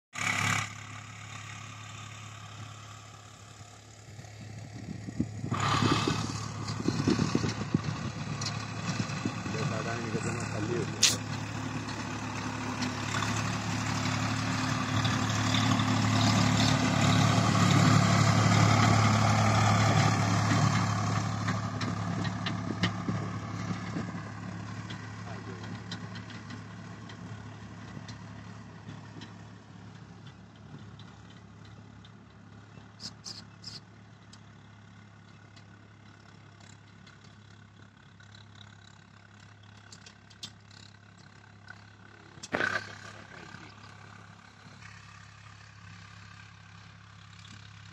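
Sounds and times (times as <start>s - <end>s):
tractor diesel engine running: 0.2s - 47.9s.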